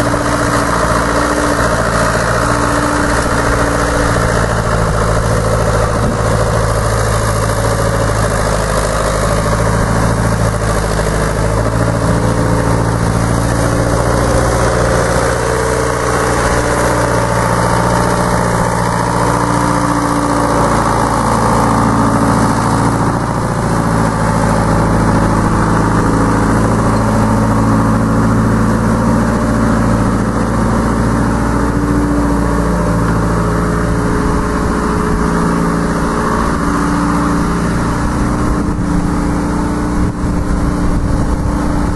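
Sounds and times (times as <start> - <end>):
diesel digger engine running: 0.0 - 41.9.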